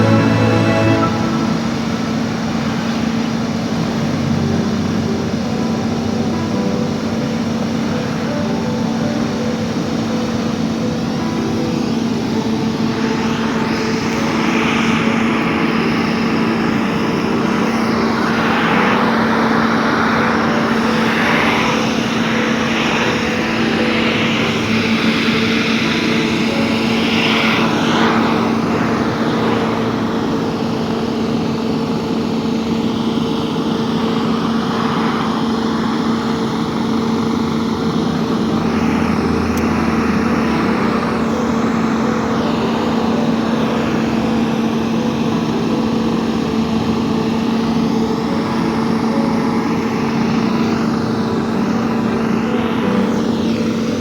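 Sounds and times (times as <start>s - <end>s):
engine droning hum: 0.0s - 54.0s
shifting wash of noise: 0.0s - 54.0s.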